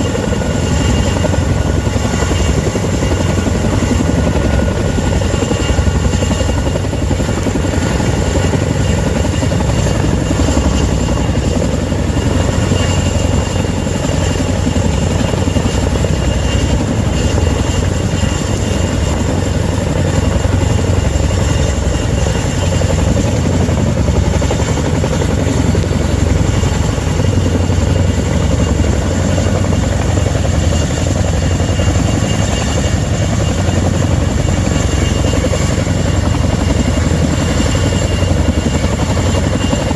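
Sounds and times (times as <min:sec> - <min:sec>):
helicopter rotor throb: 0:00.0 - 0:39.9.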